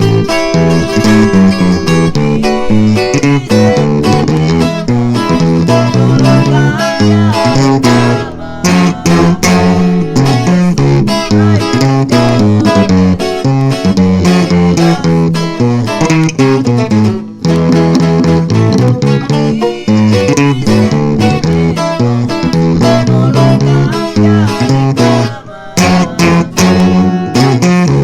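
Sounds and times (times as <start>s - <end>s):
bass: 0.0s - 28.0s
plucked guitar melody: 0.0s - 28.0s
strummed guitar: 0.0s - 28.0s.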